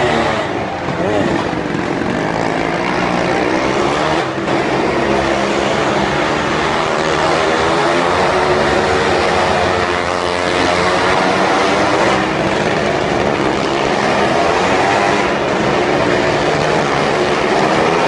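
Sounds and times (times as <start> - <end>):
stunt vehicle engines droning: 0.0 - 18.0.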